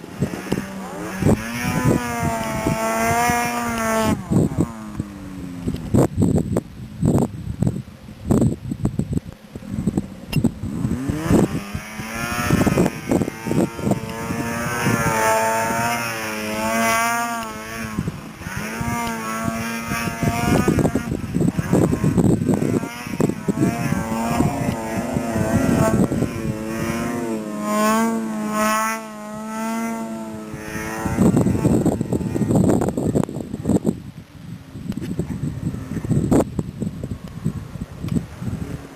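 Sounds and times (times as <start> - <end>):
snowmobile engine revving: 0.0 - 6.1, 9.6 - 34.0, 35.1 - 36.5
wind rumbling on microphone: 0.0 - 38.9.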